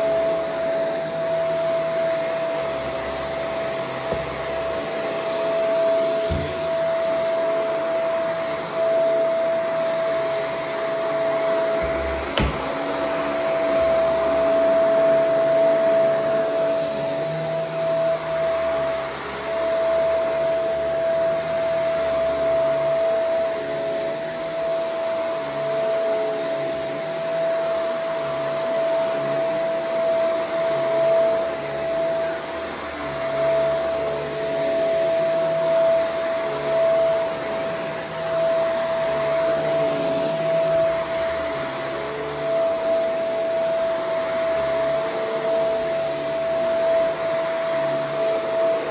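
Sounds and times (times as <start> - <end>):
upright vacuum cleaner on carpet: 0.0 - 48.9.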